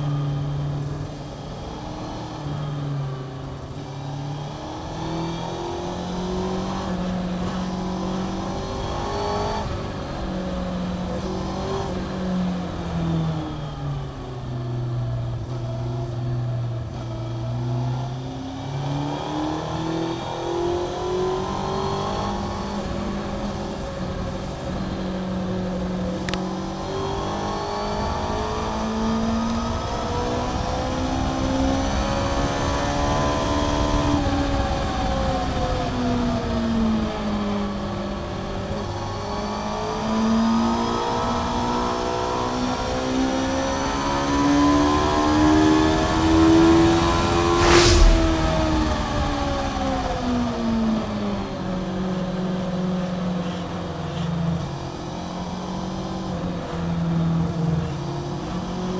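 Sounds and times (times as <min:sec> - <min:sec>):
motorcycle engine revving: 0:00.0 - 0:54.3.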